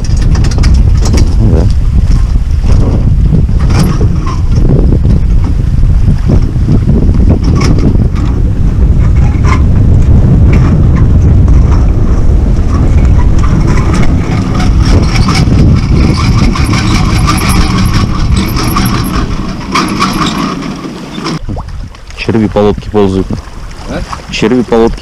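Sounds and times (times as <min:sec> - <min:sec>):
loud wind buffeting microphone: 0:00.0 - 0:25.0
waves splashing against hull: 0:00.0 - 0:25.0.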